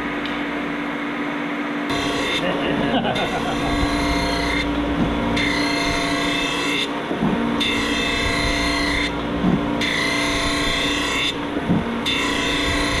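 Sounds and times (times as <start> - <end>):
grinding machine hum: 0.0 - 13.0
high machine whine: 0.0 - 13.0.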